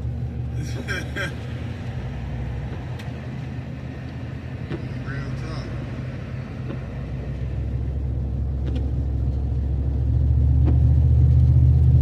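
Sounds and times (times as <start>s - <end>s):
pickup truck driving: 0.0s - 12.0s.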